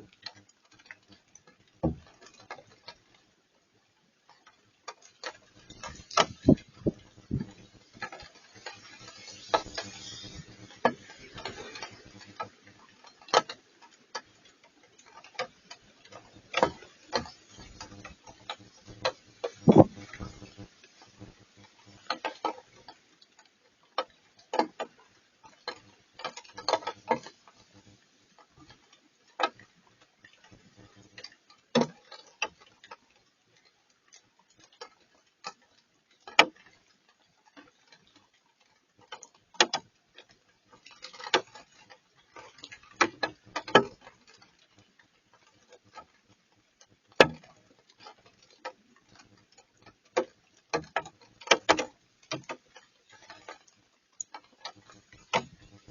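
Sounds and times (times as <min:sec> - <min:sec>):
raindrops tapping: 0:00.0 - 0:55.9.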